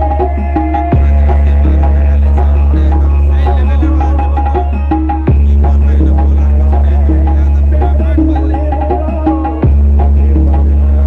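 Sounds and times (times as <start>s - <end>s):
loud dance remix music: 0.0s - 11.0s.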